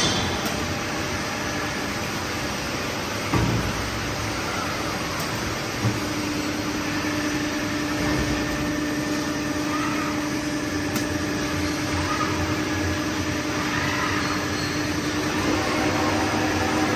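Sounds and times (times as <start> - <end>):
machinery hum: 0.0 - 16.9.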